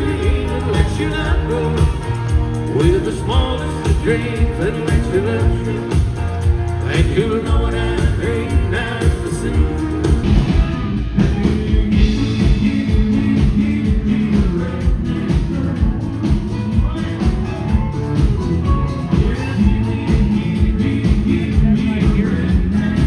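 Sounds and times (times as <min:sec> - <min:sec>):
live country band playing: 0:00.0 - 0:23.0
steady drum beat: 0:00.0 - 0:23.0.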